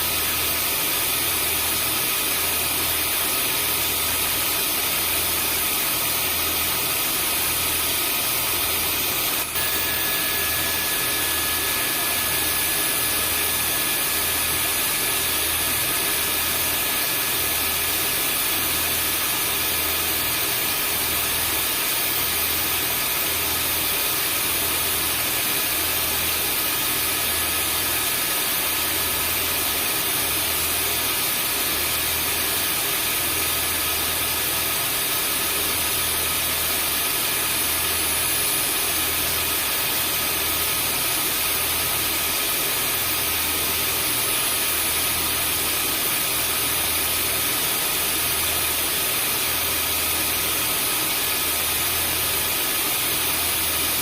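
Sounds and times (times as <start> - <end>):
vacuum cleaner motor running: 0.0 - 54.0.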